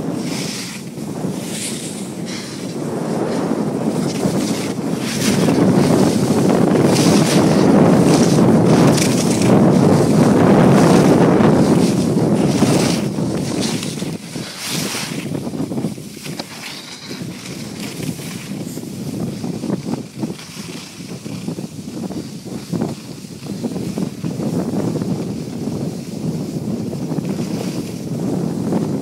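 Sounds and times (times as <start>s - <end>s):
snowboard scraping on snow: 0.0s - 29.0s
wind rushing over microphone: 0.0s - 29.0s.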